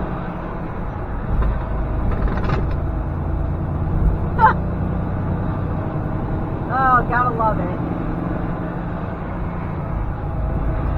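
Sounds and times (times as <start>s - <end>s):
truck engine rumble: 0.0s - 10.9s.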